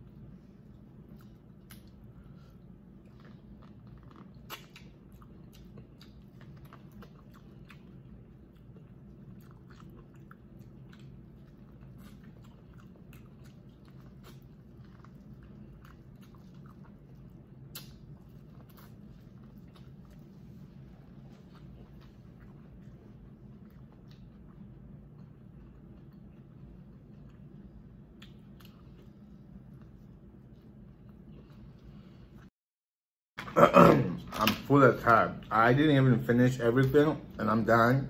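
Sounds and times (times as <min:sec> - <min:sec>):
person chewing food: 0:00.0 - 0:32.5
low background hum: 0:00.0 - 0:32.6, 0:33.4 - 0:38.0.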